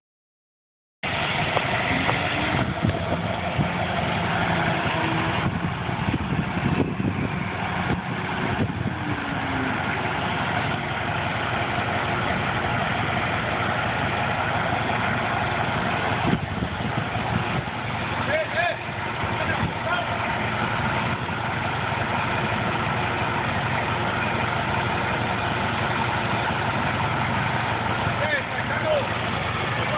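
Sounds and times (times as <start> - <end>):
engine idling: 1.0 - 29.9.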